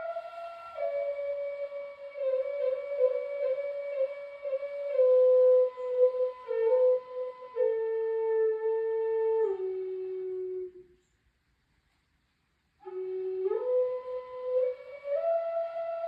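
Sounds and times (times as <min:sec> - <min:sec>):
flute playing slow melody: 0:00.0 - 0:11.0, 0:12.8 - 0:16.0.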